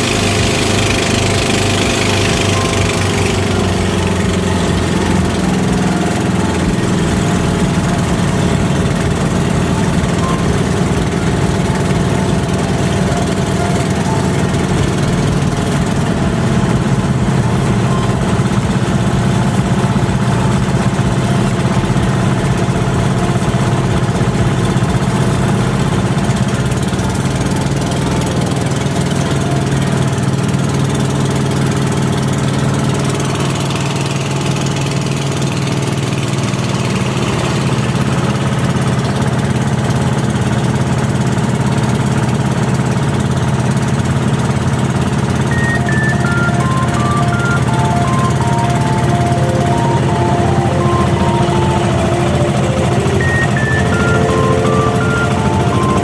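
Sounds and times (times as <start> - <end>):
engine droning steadily: 0.0 - 56.0.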